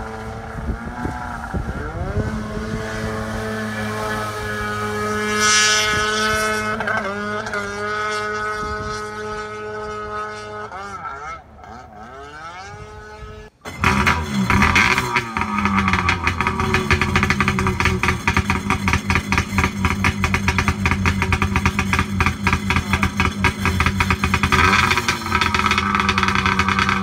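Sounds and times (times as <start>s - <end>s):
rough loud engine: 0.0s - 27.0s
watercraft engine at high revs: 0.0s - 27.0s.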